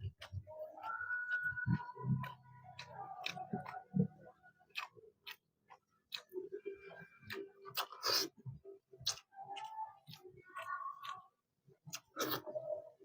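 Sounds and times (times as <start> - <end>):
wet chewing and lip smacks: 0.0 - 11.2, 11.9 - 12.6.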